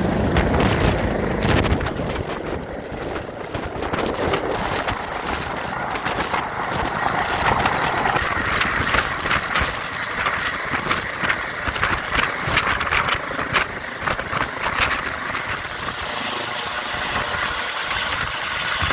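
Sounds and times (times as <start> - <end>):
helicopter turbine and rotor: 0.0 - 18.9.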